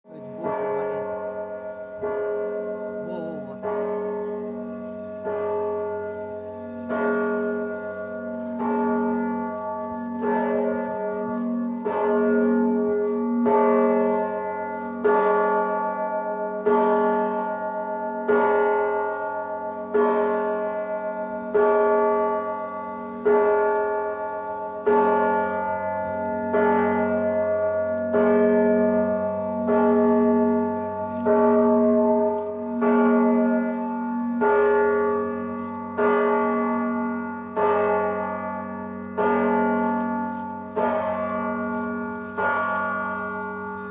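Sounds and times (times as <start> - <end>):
church bells ringing: 0.0 - 43.9
low hum of large bell: 0.0 - 43.9.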